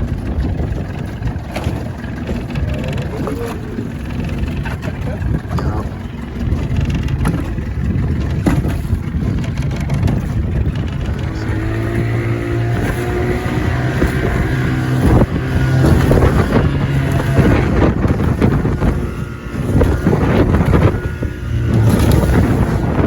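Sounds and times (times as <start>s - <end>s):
hull slapping waves: 0.0s - 23.0s
outboard motor humming: 0.0s - 23.0s
wind buffeting microphone: 0.0s - 23.0s.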